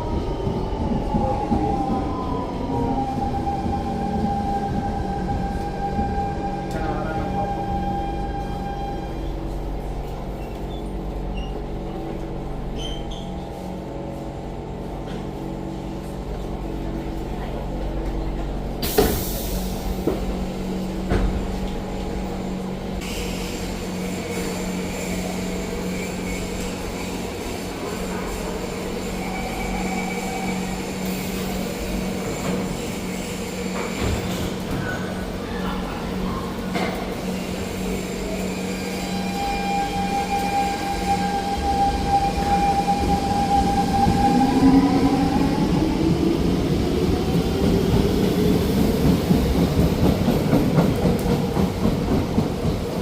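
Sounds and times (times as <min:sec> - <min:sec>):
train car rumble: 0:00.0 - 0:53.0.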